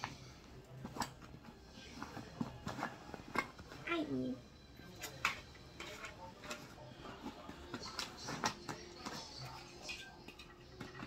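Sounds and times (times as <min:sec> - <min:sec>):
rustling and clicks of items handled: 0:00.0 - 0:03.9, 0:04.9 - 0:11.0.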